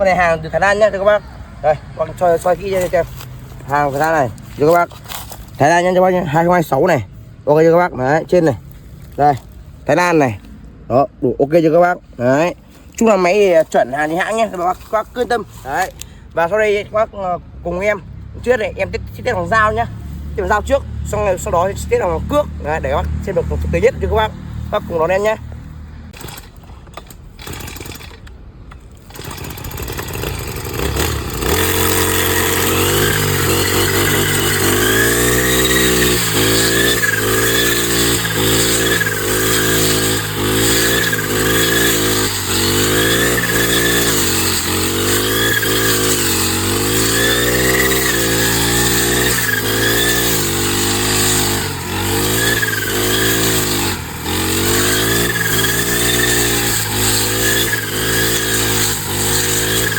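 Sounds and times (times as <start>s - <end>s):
brush cutter engine revving: 0.0s - 10.6s, 11.4s - 16.8s, 17.7s - 59.9s.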